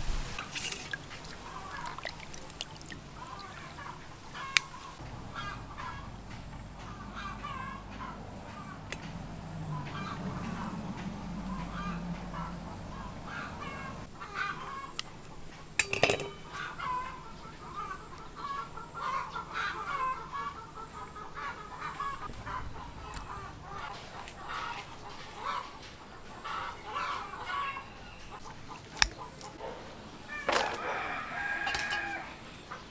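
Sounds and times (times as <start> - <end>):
chickens clucking: 0.7 - 32.9.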